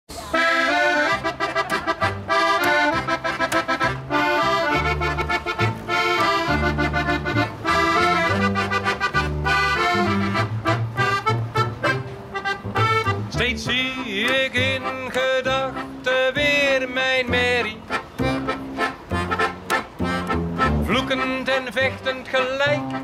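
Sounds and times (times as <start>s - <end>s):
double bass notes: 0.3s - 23.0s
piano accordion melody: 0.3s - 23.0s.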